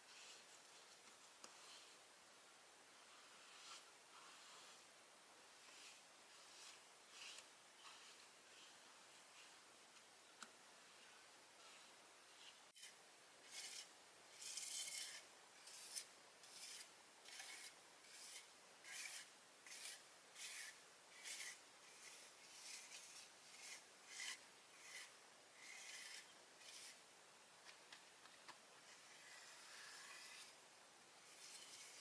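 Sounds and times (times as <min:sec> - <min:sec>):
faint rasping strokes: 0:00.0 - 0:02.2, 0:02.8 - 0:27.1, 0:28.8 - 0:30.6, 0:31.2 - 0:32.0.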